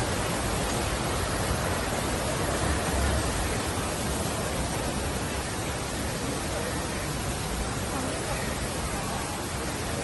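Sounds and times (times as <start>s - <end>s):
falling water hissing: 0.0s - 10.0s.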